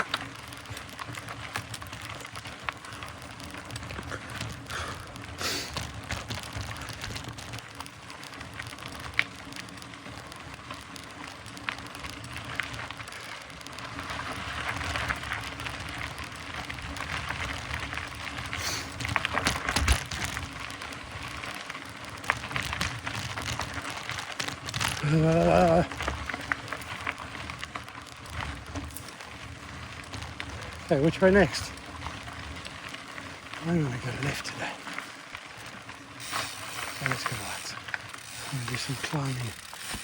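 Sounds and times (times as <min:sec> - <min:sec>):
bike rattling: 0:00.0 - 0:40.0
bike tyres crackling on dirt: 0:00.0 - 0:40.0.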